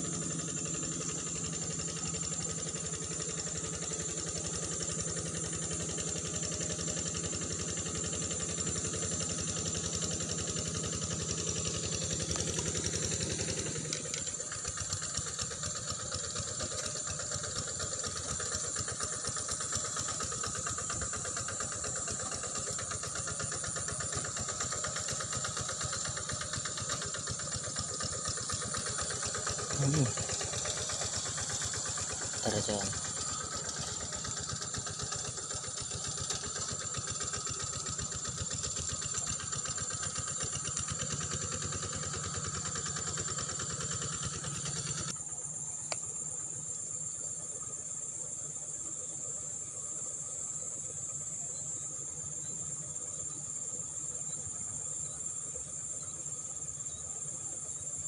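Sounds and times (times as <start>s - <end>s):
low engine hum: 0.0s - 47.4s.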